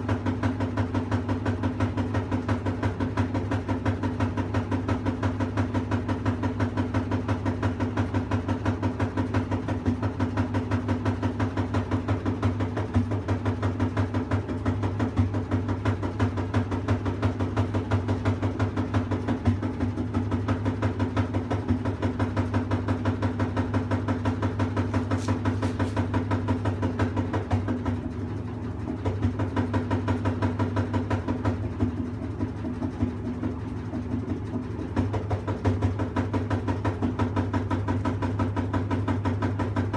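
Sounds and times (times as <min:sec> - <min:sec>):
fast regular pulsing rattle: 0:00.0 - 0:39.9
washing machine humming: 0:00.0 - 0:39.9.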